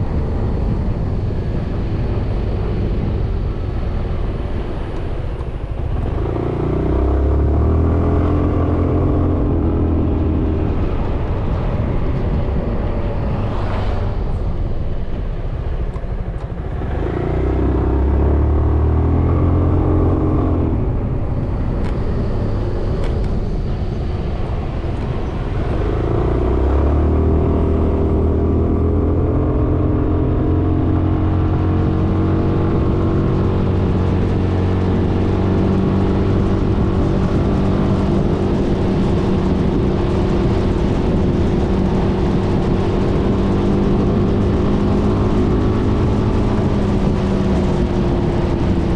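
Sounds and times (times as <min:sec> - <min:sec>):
wind rushing: 0:00.0 - 0:48.9.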